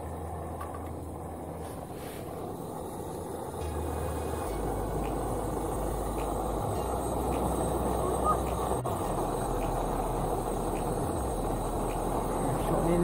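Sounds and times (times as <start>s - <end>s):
gas stove flame hissing: 0.0s - 13.0s.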